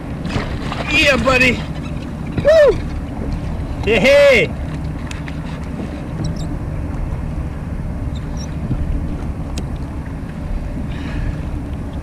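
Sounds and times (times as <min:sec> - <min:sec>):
water lapping around kayak: 0:00.0 - 0:12.0
wind rumble on microphone: 0:00.0 - 0:12.0.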